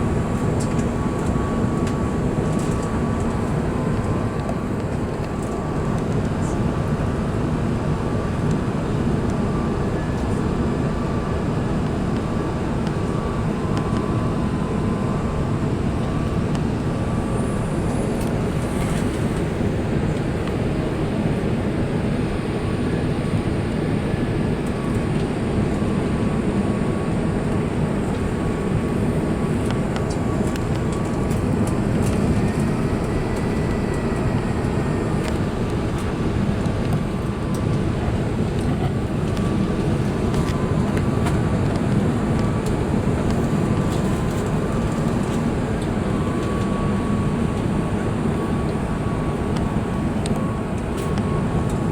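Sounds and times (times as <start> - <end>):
airplane cabin rumble: 0.0 - 51.9
faint whining tones: 0.0 - 51.9.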